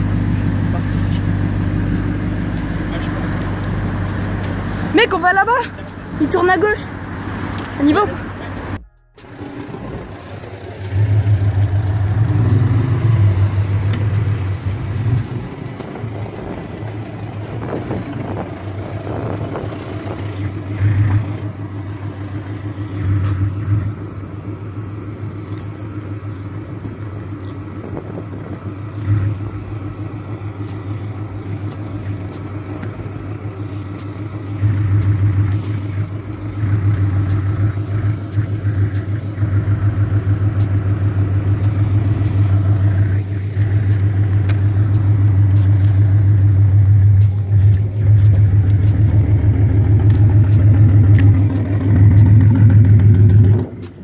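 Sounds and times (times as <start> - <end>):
car engine running and revving: 0.0 - 54.0.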